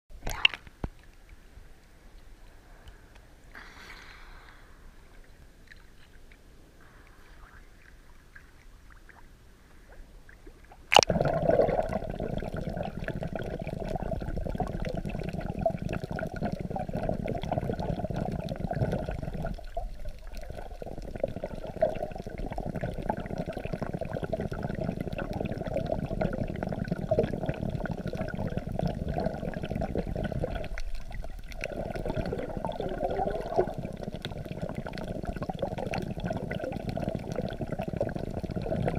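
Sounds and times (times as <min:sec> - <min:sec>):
muffled underwater rush and sloshing: 0:03.8 - 0:38.9.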